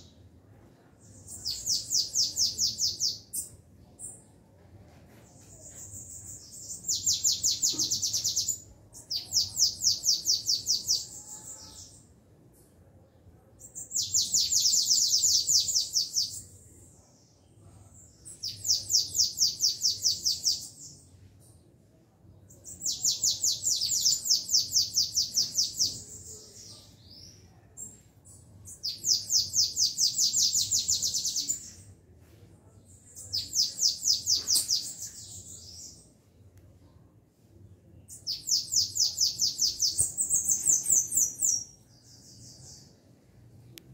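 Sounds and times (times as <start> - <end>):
caged songbirds trilling: 1.0 - 4.4, 5.1 - 21.6, 22.4 - 32.0, 32.8 - 36.4, 38.0 - 43.4.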